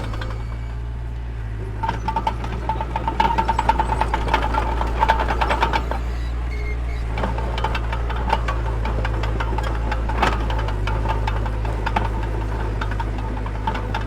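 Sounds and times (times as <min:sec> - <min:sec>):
rapid metallic clanking with squeal: 0:00.0 - 0:01.0, 0:01.7 - 0:14.0
bulldozer diesel engine running: 0:00.0 - 0:14.0.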